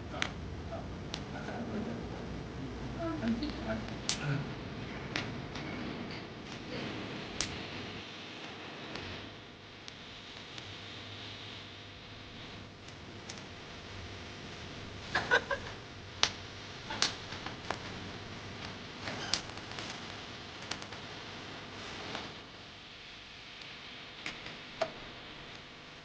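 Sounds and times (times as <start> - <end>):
campfire wood crackling: 0.0 - 26.0.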